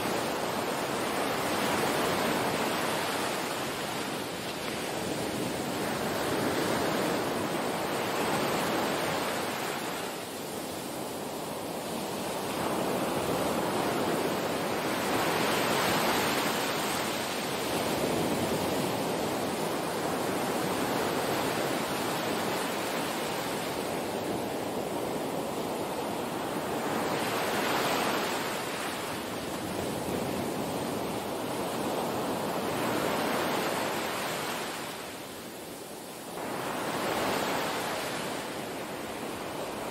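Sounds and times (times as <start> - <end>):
small waves breaking on sand: 0.0 - 39.9.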